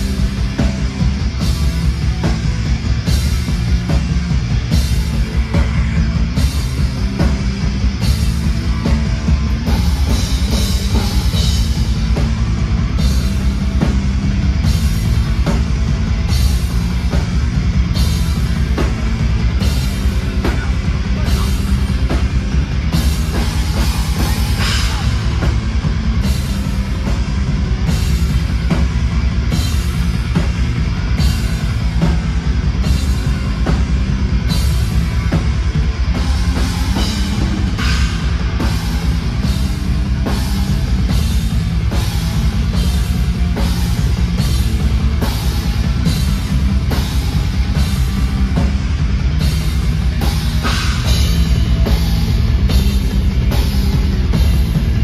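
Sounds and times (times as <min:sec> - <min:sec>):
metal band playing loud: 0:00.0 - 0:55.0.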